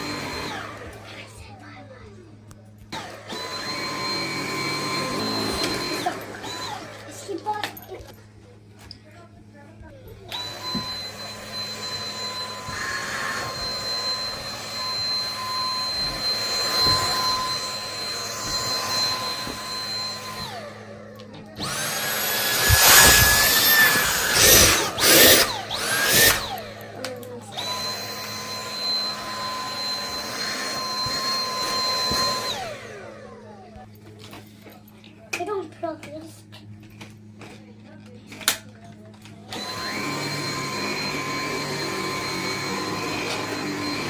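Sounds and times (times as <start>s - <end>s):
vacuum cleaner motor whine: 0.0s - 35.2s, 36.9s - 44.0s.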